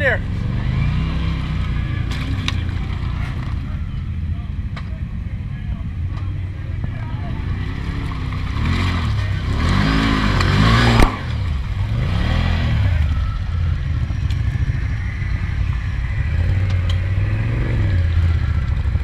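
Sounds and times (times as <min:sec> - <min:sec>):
off-road engines revving: 0:00.0 - 0:19.0.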